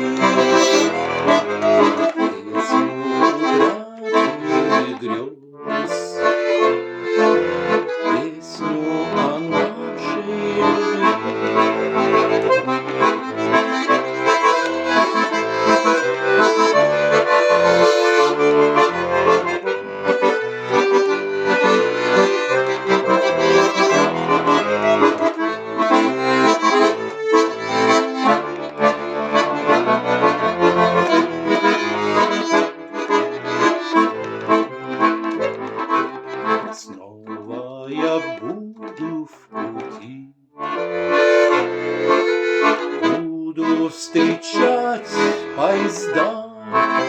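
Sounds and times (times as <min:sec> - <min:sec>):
button accordion playing: 0:00.0 - 0:47.0.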